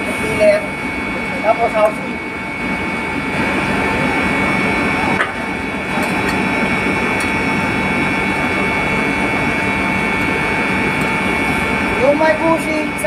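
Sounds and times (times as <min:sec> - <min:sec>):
machinery drone with whining tones: 0:00.0 - 0:13.0.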